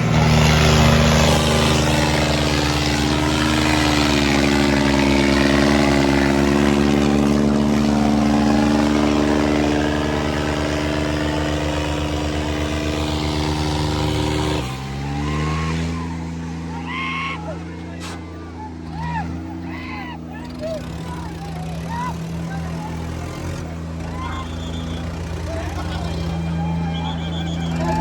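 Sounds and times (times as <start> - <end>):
tractor diesel engines running: 0.0 - 28.0.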